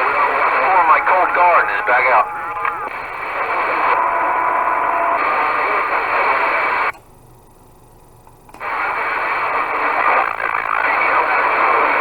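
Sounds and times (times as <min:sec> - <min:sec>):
radio static hiss: 0:00.0 - 0:07.0, 0:08.4 - 0:12.0.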